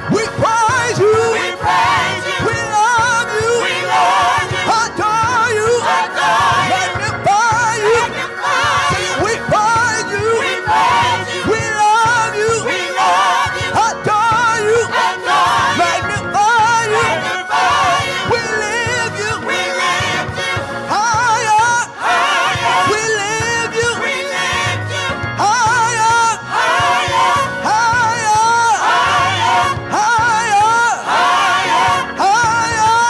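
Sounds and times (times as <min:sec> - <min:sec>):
group singing gospel with vibrato: 0:00.0 - 0:33.0.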